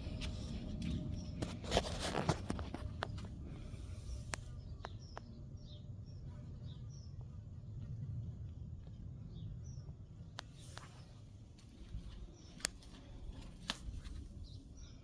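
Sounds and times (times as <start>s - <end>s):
small birds chirping: 0.0s - 8.0s, 8.9s - 15.0s
low steady rumble: 0.0s - 15.0s.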